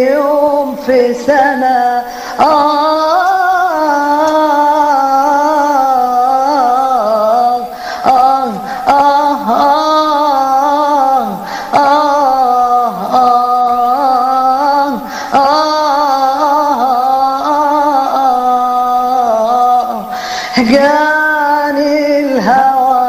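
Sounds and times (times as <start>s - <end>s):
person singing with vibrato: 0.0s - 23.0s.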